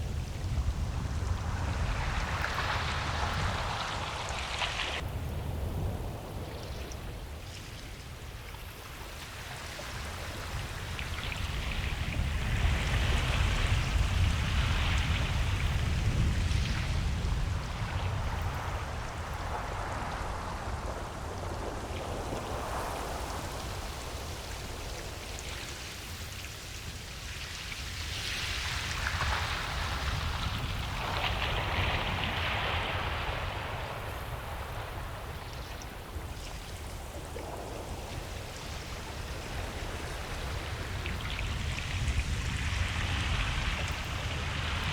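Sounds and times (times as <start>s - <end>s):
ocean waves breaking: 0.0s - 26.3s, 28.4s - 44.9s.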